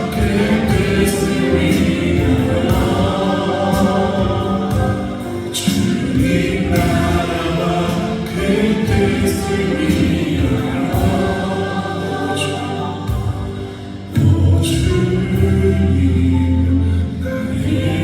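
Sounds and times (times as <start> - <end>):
gospel choir singing over a beat: 0.0 - 18.0.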